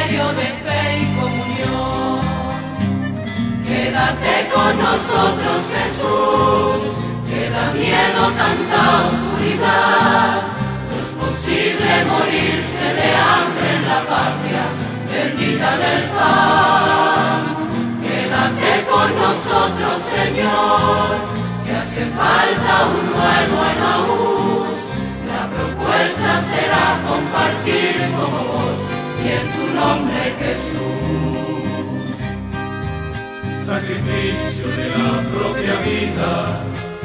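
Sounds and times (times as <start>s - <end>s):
choir singing a hymn: 0.0s - 32.4s, 33.6s - 37.0s
low instrumental accompaniment: 0.0s - 37.0s.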